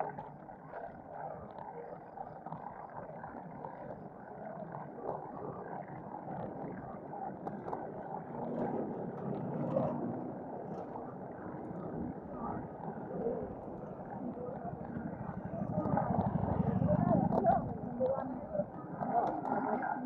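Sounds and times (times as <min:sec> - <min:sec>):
wind and road noise on bicycle: 0:00.0 - 0:20.0.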